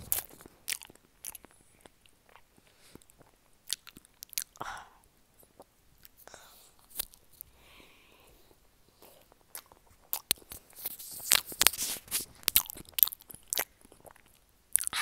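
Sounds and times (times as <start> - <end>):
person chewing close up: 0.0 - 7.5, 8.3 - 15.0.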